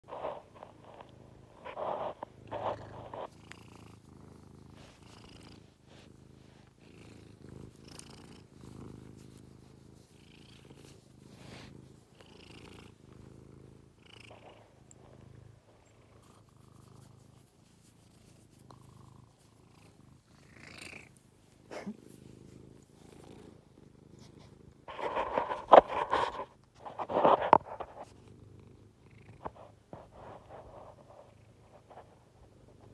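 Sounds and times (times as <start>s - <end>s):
cat purring: 0.0s - 32.9s.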